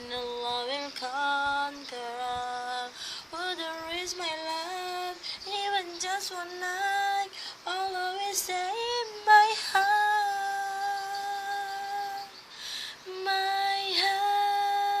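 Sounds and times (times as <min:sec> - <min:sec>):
woman singing nasally: 0:00.0 - 0:15.0.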